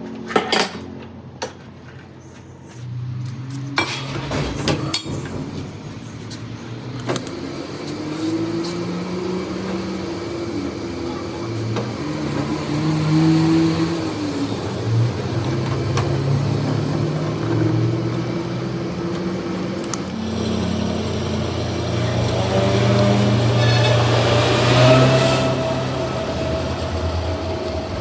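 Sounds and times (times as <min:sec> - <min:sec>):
machine motor running: 0:05.6 - 0:28.0.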